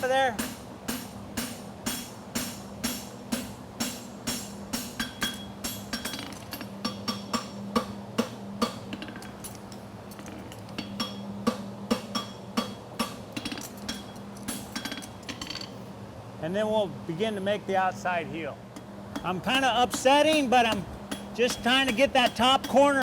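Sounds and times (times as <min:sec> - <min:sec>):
low steady hum: 0:00.0 - 0:23.0
hammer striking steel on anvil: 0:00.3 - 0:09.5, 0:10.8 - 0:15.8, 0:18.8 - 0:23.0.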